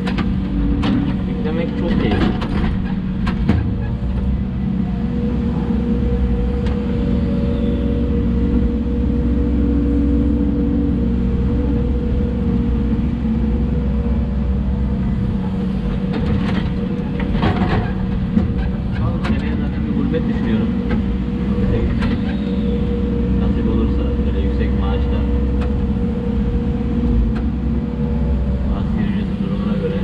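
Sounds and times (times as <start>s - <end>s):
excavator diesel engine running: 0.0s - 30.0s
high whine: 0.0s - 30.0s.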